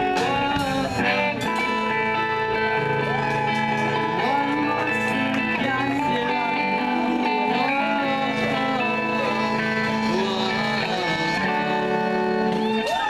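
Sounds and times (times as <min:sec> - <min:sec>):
guitar with pitch bends: 0:00.0 - 0:13.0
live band playing: 0:00.0 - 0:13.0.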